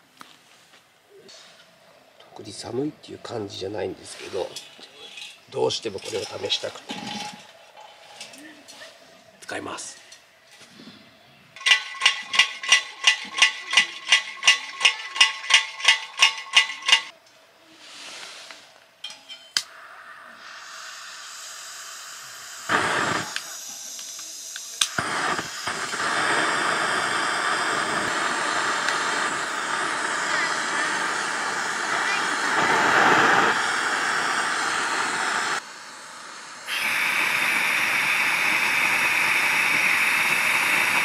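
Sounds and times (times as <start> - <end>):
burner hissing: 3.5 - 8.8, 11.6 - 41.0.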